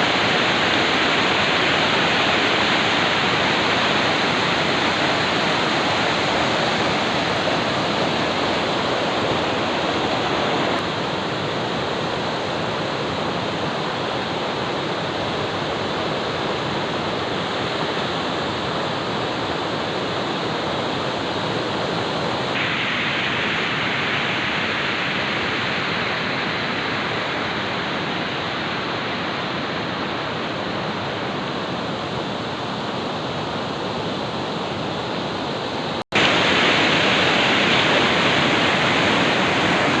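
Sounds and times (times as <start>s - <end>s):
river rapids rushing: 0.0s - 40.0s.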